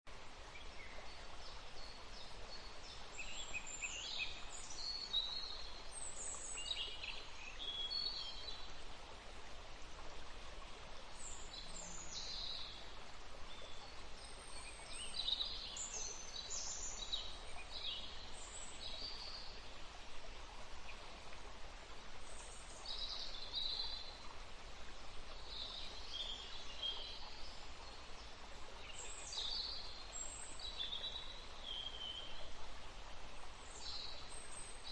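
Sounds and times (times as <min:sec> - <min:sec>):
low background noise: 0:00.1 - 0:34.9
songbirds chirping: 0:00.1 - 0:34.9.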